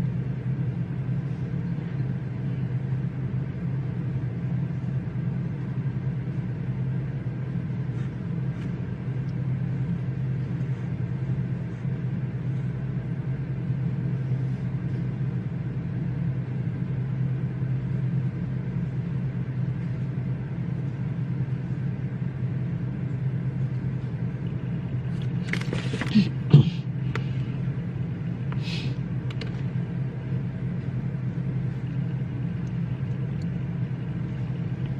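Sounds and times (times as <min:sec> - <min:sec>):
low room hum: 0:00.0 - 0:34.9.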